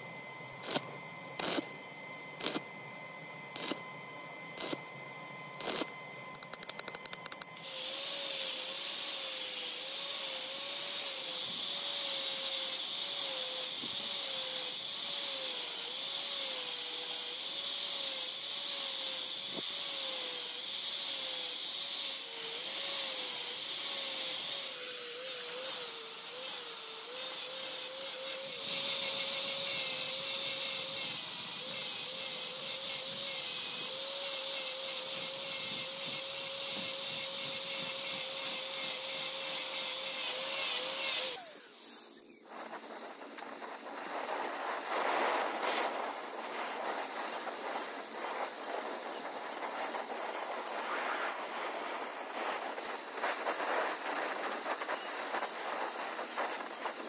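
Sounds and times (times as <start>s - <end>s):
welding torch hissing: 1.4s - 1.6s, 2.4s - 2.6s, 5.6s - 5.8s, 6.4s - 57.0s
angle grinder grinding steel: 1.4s - 1.7s, 2.4s - 2.6s, 3.6s - 3.8s, 4.6s - 4.8s, 5.6s - 57.0s.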